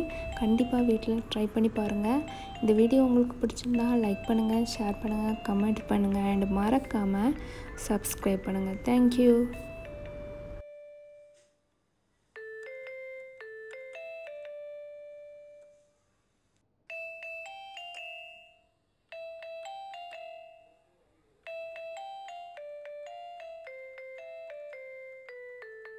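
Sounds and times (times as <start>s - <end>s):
bell-like chiming melody: 0.0s - 11.5s, 12.4s - 15.9s, 16.9s - 25.9s.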